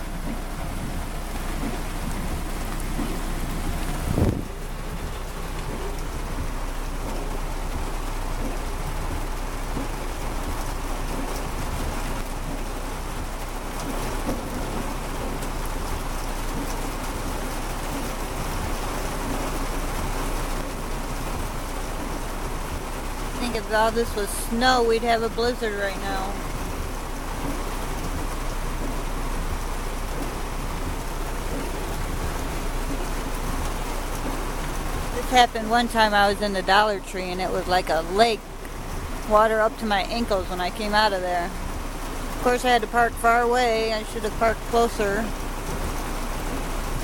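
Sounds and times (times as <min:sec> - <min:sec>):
heavy rain on car roof: 0:00.0 - 0:47.0.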